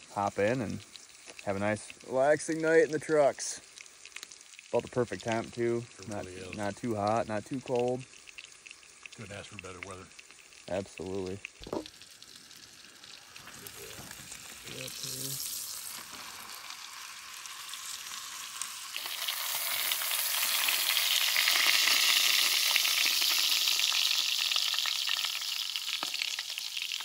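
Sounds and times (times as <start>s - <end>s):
steak sizzling in a skillet: 0.0s - 27.0s.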